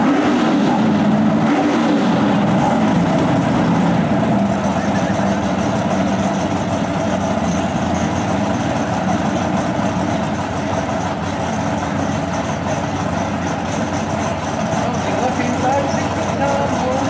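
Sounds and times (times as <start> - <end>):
drag car engine idling: 0.0 - 17.0.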